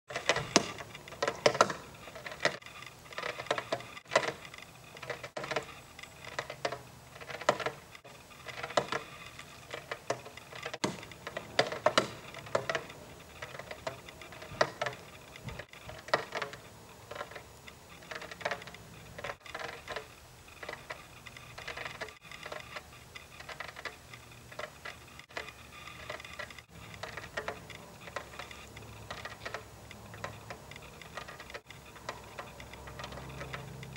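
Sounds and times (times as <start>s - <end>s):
irregular clicking and ticking: 0.1s - 33.9s.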